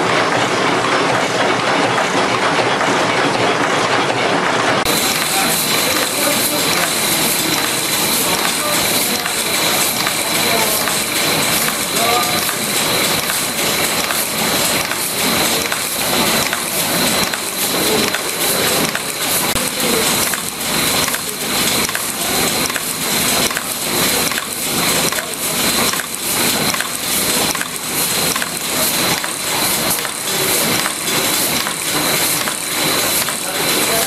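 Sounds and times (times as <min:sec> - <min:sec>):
machine clattering metal strokes: 0:00.1 - 0:34.0.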